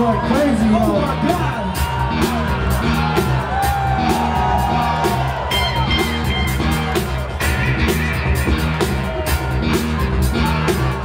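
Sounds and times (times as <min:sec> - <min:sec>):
breakbeat music: 0:00.0 - 0:11.0.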